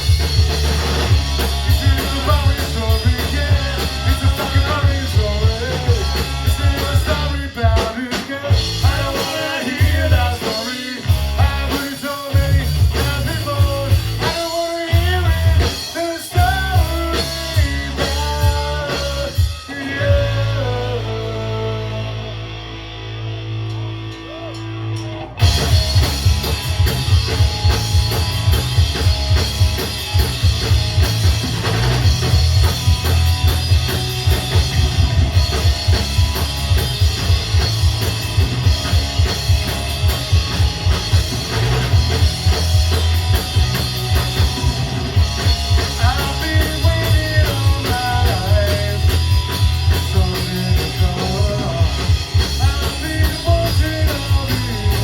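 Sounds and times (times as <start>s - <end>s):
rock music with drums: 0.0s - 55.0s.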